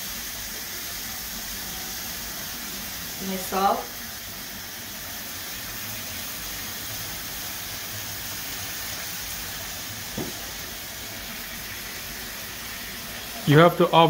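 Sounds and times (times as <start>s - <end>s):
fish sizzling in frying pan: 0.0s - 14.0s.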